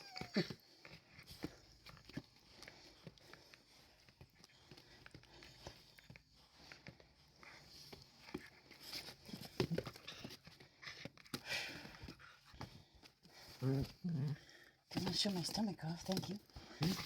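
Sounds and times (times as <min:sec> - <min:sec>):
puppy scuffling and rustling: 0:00.0 - 0:17.0.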